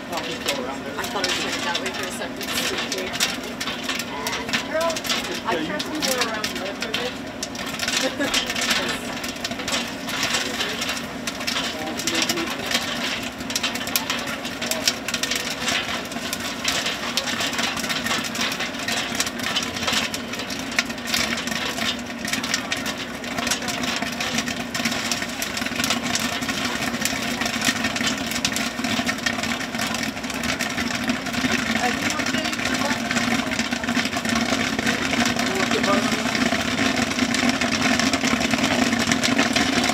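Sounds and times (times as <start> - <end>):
crackle of small clicks: 0.0 - 39.9
machine humming: 0.0 - 39.9.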